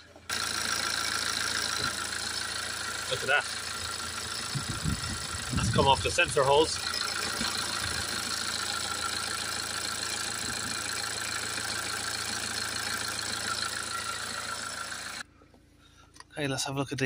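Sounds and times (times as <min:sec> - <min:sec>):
diesel engine idling: 0:00.0 - 0:15.2.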